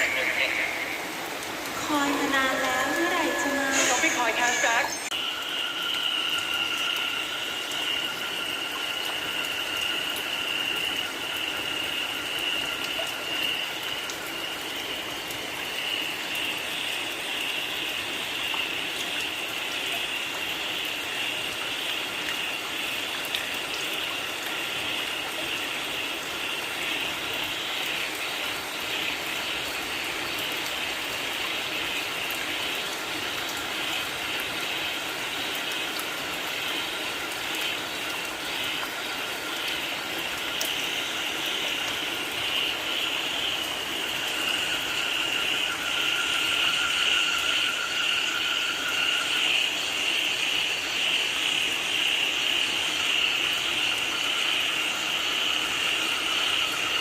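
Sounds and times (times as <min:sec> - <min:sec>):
frogs calling: 0:00.0 - 0:57.0
steady rain: 0:00.0 - 0:57.0.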